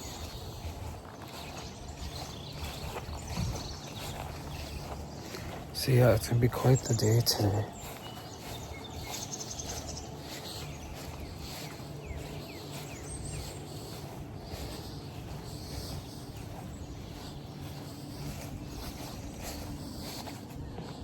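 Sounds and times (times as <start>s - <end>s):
bird chirps: 0.0s - 21.0s
steady low hum: 0.0s - 21.0s.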